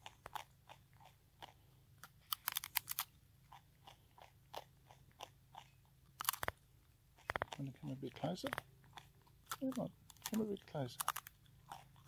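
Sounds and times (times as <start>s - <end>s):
animal crunching dry noodles: 0.0s - 12.0s.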